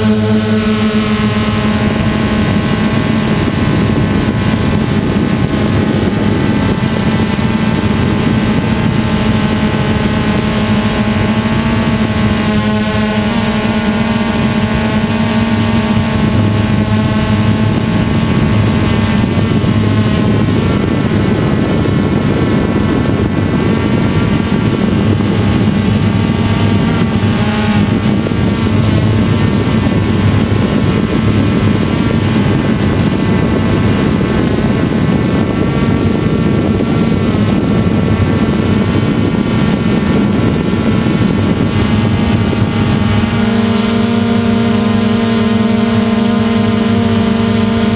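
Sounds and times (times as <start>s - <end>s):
drone propellers buzzing: 0.0s - 47.9s.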